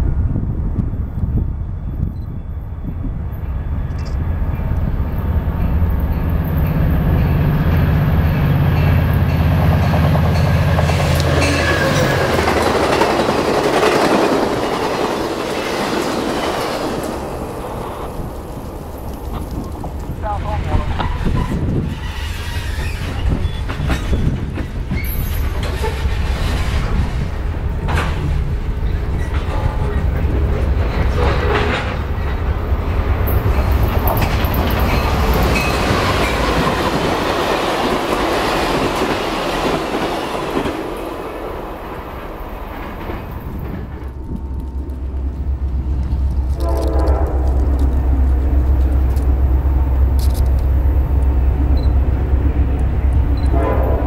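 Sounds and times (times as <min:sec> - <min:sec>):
freight train low rumble: 0:00.0 - 0:54.0
passenger train rumbling and clattering: 0:00.0 - 0:54.0.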